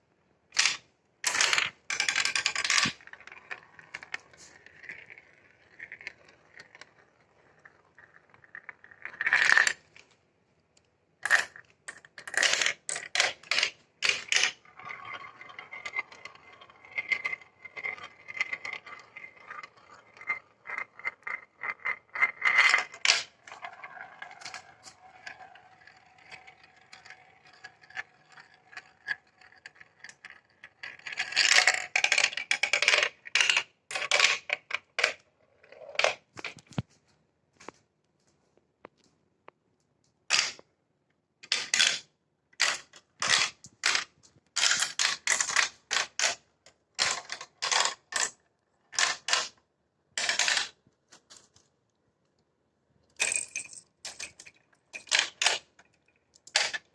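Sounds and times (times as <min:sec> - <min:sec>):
marbles clicking and clattering: 0:00.6 - 0:09.8, 0:11.2 - 0:36.8, 0:40.3 - 0:40.6, 0:41.4 - 0:46.4, 0:47.0 - 0:49.6, 0:50.2 - 0:50.8, 0:53.1 - 0:56.9
marbles rolling on plastic track: 0:00.6 - 0:10.0, 0:11.2 - 0:36.8, 0:40.3 - 0:40.6, 0:41.4 - 0:46.4, 0:47.0 - 0:49.6, 0:50.2 - 0:50.8, 0:53.2 - 0:56.9.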